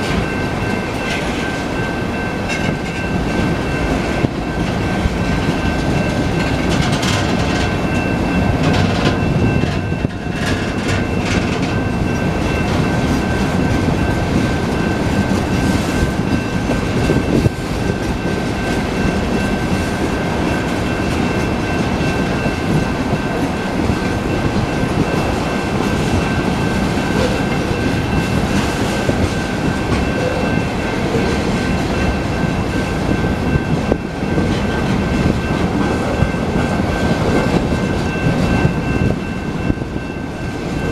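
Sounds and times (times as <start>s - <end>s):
train wheels clacking over rail joints: 0.0s - 39.8s
high-pitched ring: 0.0s - 40.9s.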